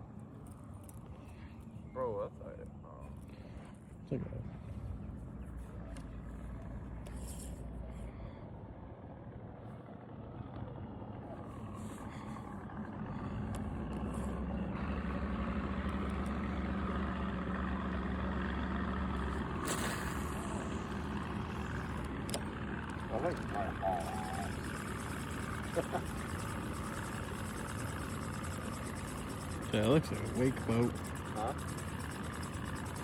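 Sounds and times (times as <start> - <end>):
motorboat engine running: 0.0 - 33.0.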